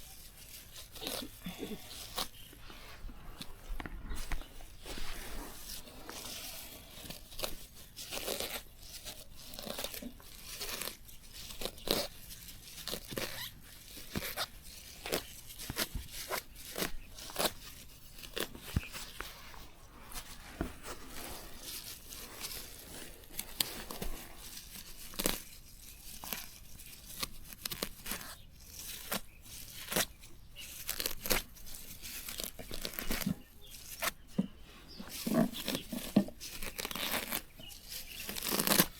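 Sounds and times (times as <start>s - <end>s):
leafy plants being torn: 0.0s - 2.7s, 3.3s - 38.9s.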